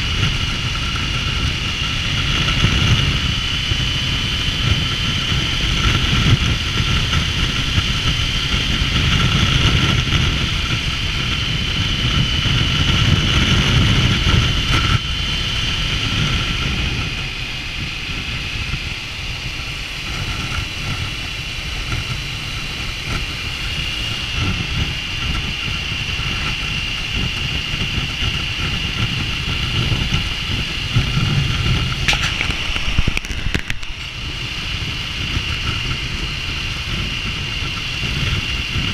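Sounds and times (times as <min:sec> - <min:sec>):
motorcycle engine running: 0:00.0 - 0:38.9
wind and road rush: 0:00.0 - 0:38.9.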